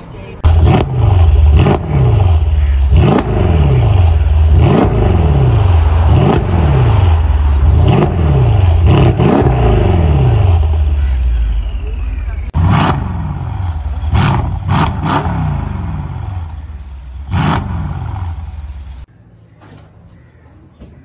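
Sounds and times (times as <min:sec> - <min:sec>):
car engine revving: 0:00.4 - 0:19.1.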